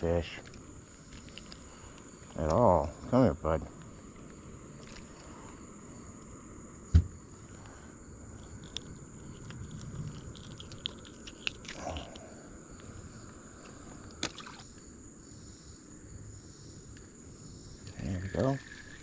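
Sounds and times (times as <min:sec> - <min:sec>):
steady high-pitched hum: 0:00.0 - 0:19.0.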